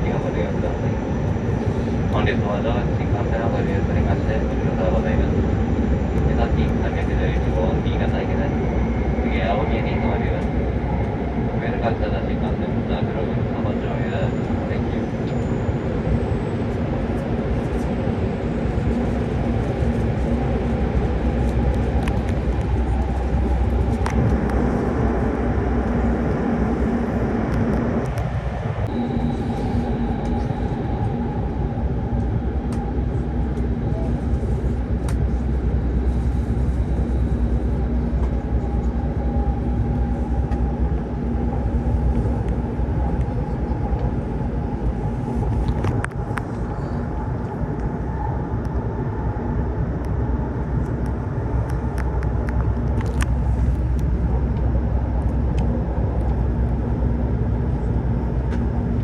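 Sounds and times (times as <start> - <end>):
train drive hum: 0.0 - 59.0.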